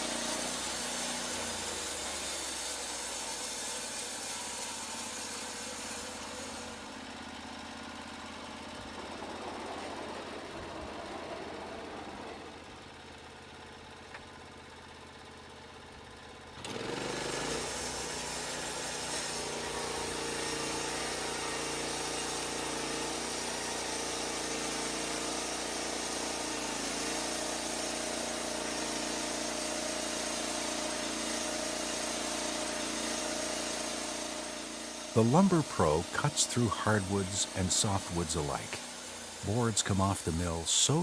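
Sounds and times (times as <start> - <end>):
sawmill engine revving: 0.0 - 12.9, 16.6 - 41.0.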